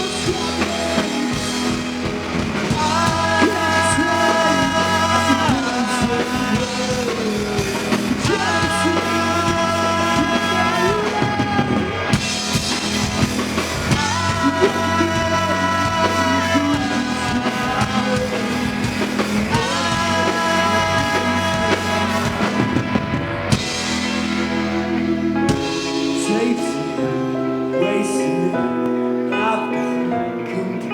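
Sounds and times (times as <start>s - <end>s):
drum kit: 0.0s - 27.4s
held chords: 0.0s - 30.9s.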